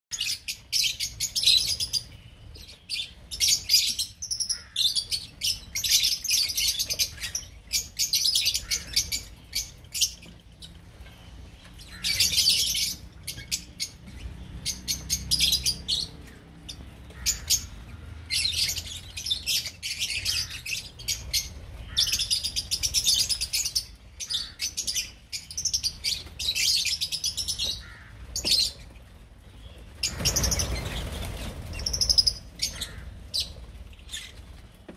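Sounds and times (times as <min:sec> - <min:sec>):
lovebirds chattering: 0:00.1 - 0:34.8.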